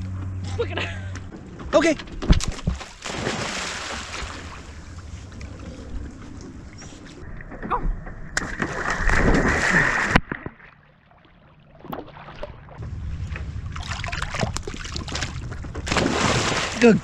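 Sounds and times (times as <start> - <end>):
water splashing and sloshing: 0.0 - 17.0
water lapping: 2.7 - 7.8, 8.4 - 17.0.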